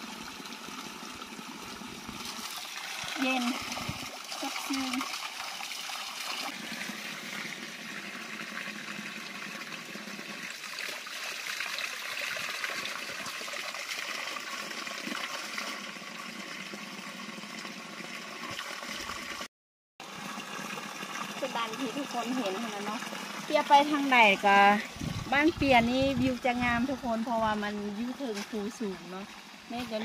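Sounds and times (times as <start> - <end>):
stream running over rocks: 0.0 - 30.0
water pouring from pipe spout: 0.0 - 30.0.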